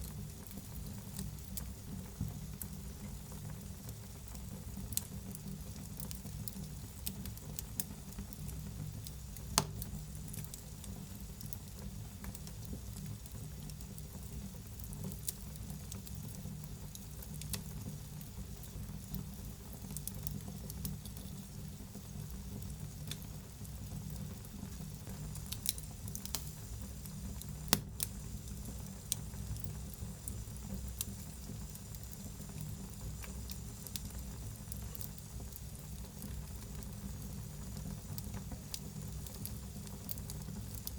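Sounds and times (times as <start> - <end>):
fire crackles and pops: 0.0 - 40.9
low rumble of flames: 0.0 - 40.9.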